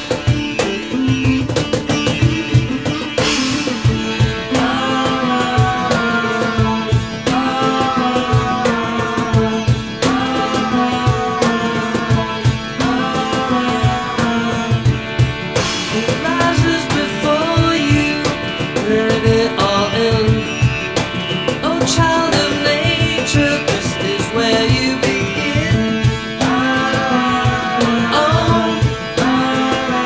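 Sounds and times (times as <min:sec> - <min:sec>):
percussion rhythm: 0:00.0 - 0:30.0
sitar melody: 0:00.0 - 0:30.0.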